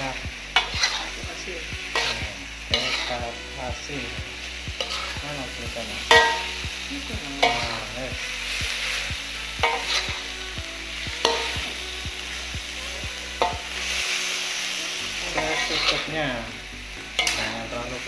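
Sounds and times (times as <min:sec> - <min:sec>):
metal spatula scraping: 0:00.0 - 0:10.4, 0:11.0 - 0:12.5, 0:13.3 - 0:16.5, 0:17.1 - 0:18.0
food sizzling in a wok: 0:00.0 - 0:18.0.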